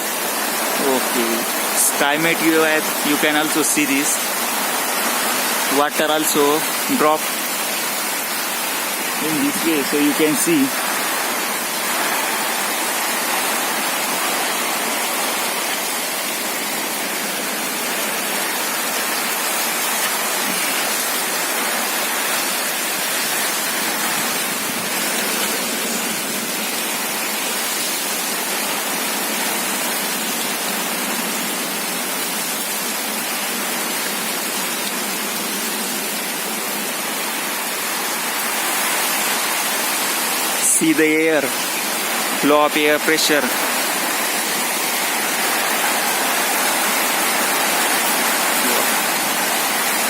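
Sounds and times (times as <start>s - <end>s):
heavy rain downpour: 0.0s - 50.0s.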